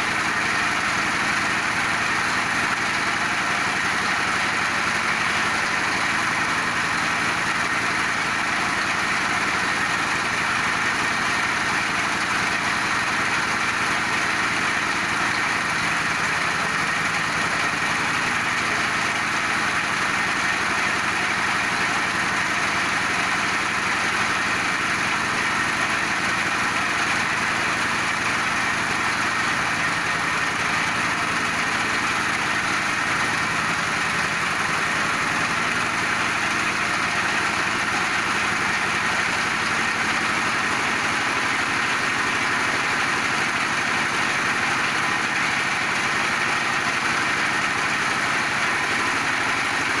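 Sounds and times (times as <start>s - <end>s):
pellet machine droning: 0.0s - 50.0s.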